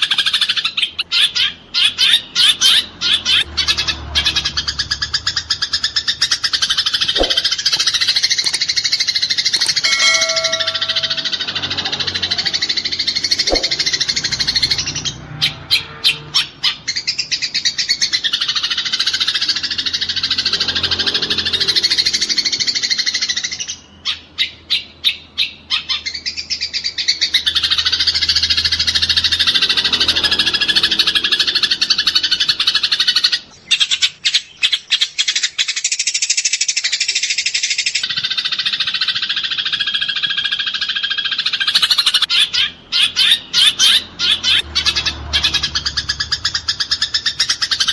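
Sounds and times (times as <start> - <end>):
sparrows chattering: 0.0 - 47.9.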